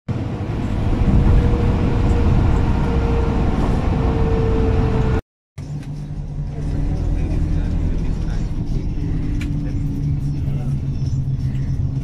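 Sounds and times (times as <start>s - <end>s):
road and engine noise in vehicle: 0.1s - 12.0s.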